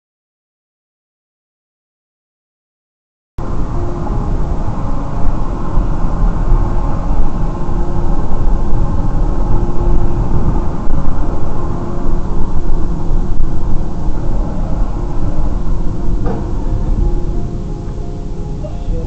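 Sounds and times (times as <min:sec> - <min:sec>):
car road and engine rumble: 0:03.4 - 0:19.0.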